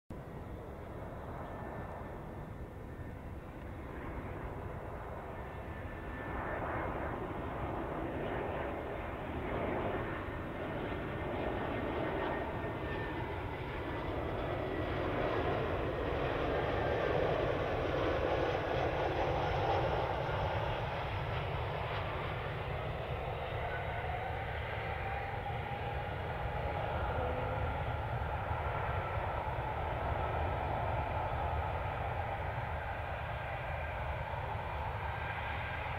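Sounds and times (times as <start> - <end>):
jet engines roaring on landing: 0.2 - 35.9.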